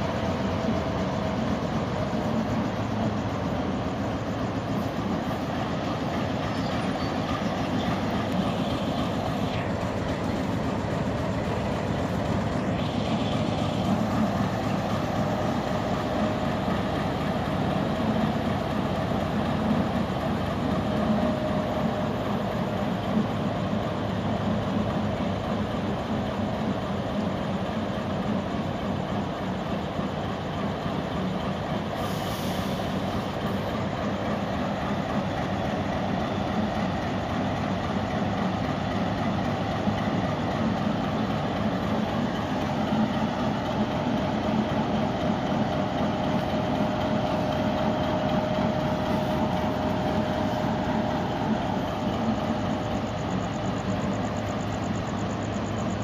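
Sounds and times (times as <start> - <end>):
faint steady whine: 0.0 - 56.0
locomotive engine running: 0.0 - 56.0.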